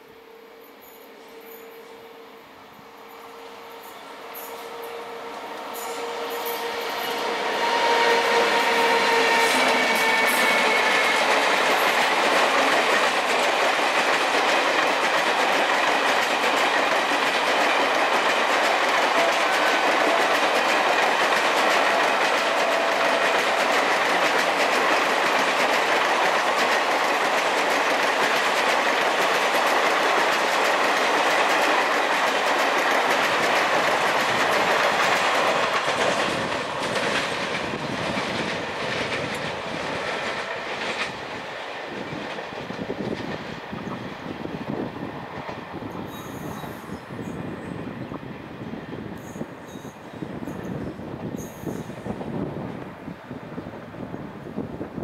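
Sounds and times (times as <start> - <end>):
train wheels clacking on rails: 3.8 - 53.2.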